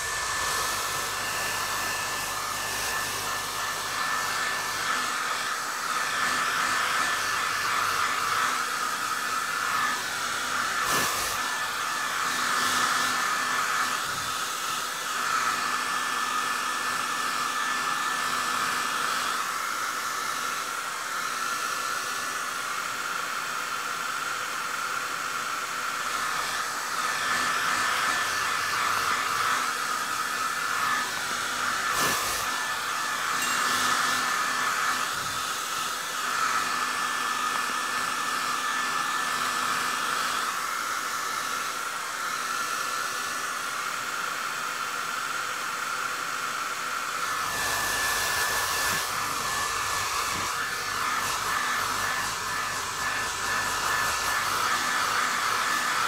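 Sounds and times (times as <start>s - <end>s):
hair dryer blowing air: 0.0s - 56.0s.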